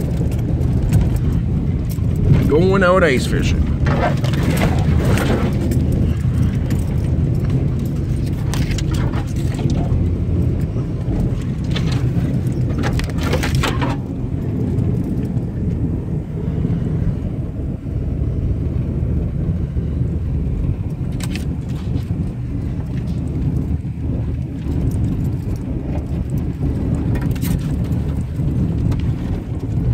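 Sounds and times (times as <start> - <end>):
vehicle engine rumbling: 0.0 - 29.9.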